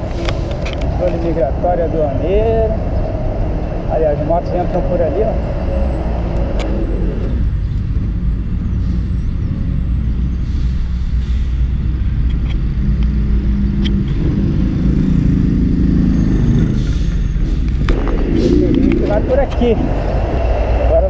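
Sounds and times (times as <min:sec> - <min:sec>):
engine approaching: 0:00.0 - 0:21.0
road traffic rumble: 0:00.0 - 0:21.0.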